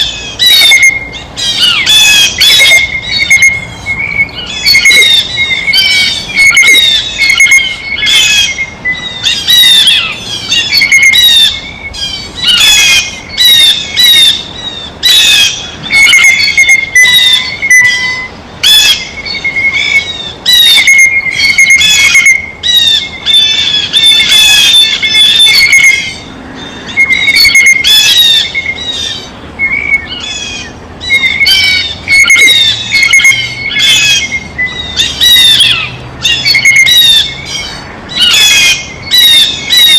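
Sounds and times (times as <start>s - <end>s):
blue jays squawking: 0.0s - 39.9s.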